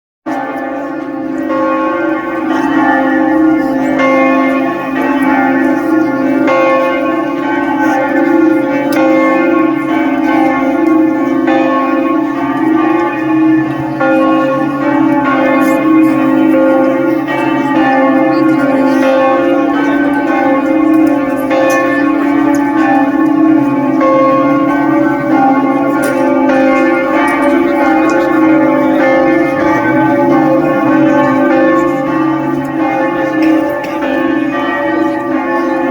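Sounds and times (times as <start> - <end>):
church bells ringing: 0.3 - 35.9.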